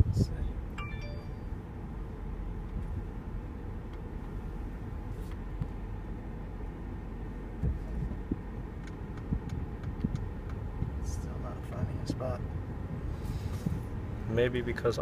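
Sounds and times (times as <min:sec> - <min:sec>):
low rumble of engine and tyres: 0:00.0 - 0:15.0.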